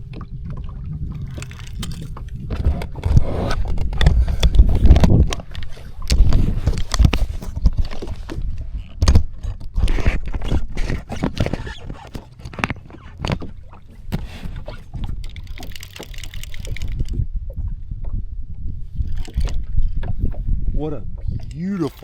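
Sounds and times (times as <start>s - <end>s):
wind buffeting microphone: 0.0s - 21.9s
water splashing against hull: 0.0s - 22.0s.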